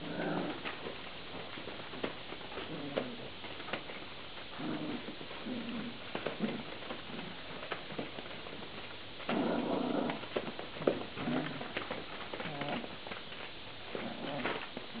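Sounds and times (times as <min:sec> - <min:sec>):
puppies scuffling: 0:00.0 - 0:15.0.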